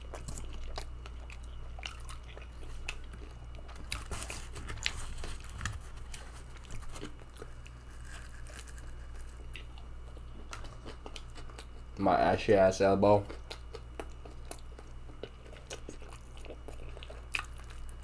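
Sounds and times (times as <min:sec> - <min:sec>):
person chewing pizza crunches: 0:00.0 - 0:12.0, 0:13.0 - 0:18.0
steady low hum: 0:00.0 - 0:18.0.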